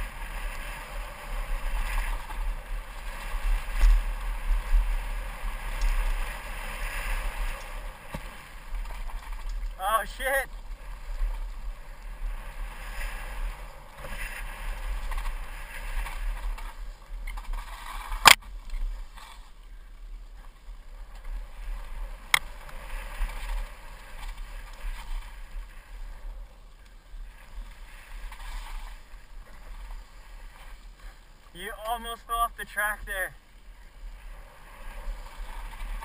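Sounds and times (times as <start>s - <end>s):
bike tires rumbling on dirt trail: 0.0s - 36.0s
muffled wind: 0.0s - 36.0s.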